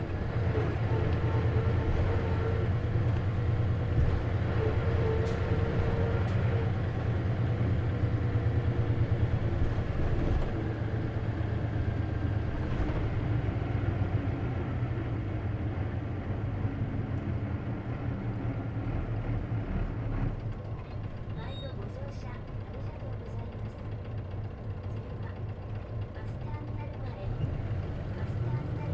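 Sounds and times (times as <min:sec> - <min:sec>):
bus diesel engine drone: 0:00.0 - 0:28.9.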